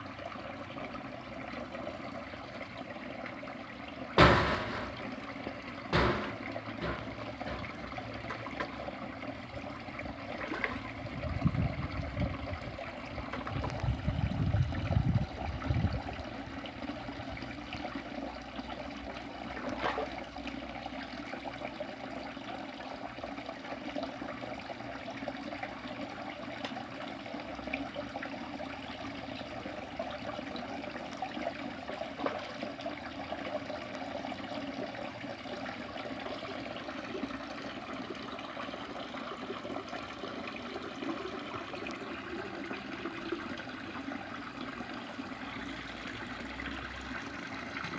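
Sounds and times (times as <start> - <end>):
water trickling into tank: 0.0 - 47.9.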